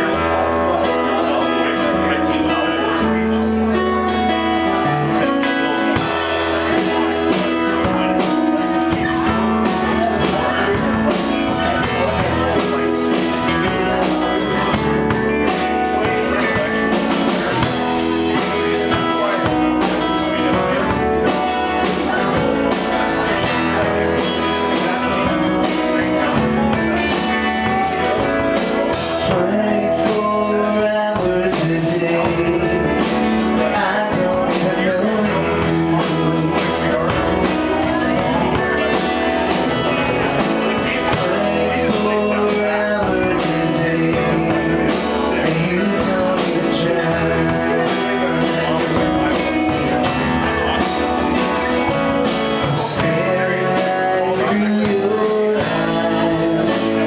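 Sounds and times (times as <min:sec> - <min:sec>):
drum kit beat: 0:00.0 - 0:57.0
electric guitars: 0:00.0 - 0:57.0
strummed acoustic guitar: 0:00.0 - 0:57.0.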